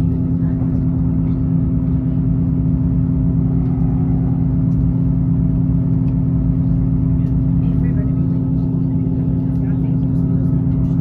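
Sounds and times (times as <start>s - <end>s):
diesel engine drone: 0.0s - 11.0s
train wheels rumbling on rails: 0.0s - 11.0s.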